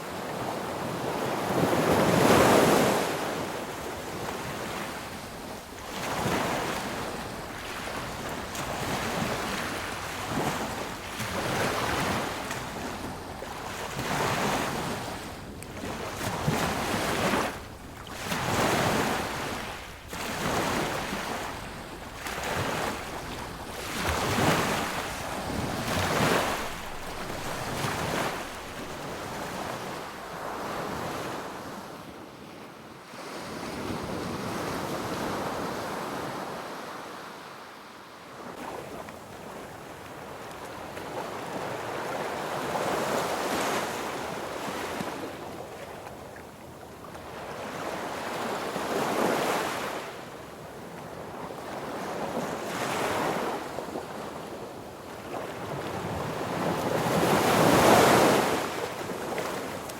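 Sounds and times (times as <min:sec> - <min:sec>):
sea waves breaking on beach: 0:00.0 - 0:32.0, 0:38.5 - 0:59.9.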